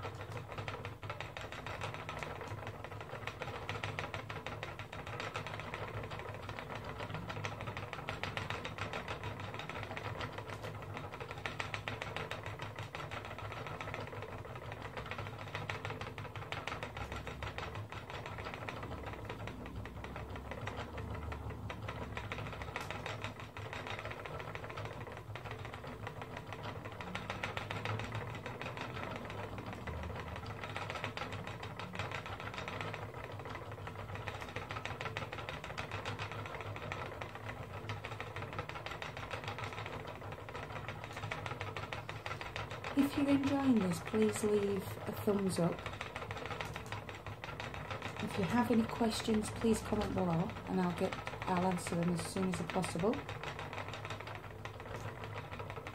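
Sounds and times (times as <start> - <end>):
spinning wheel clicking and rattling: 0.0 - 55.9.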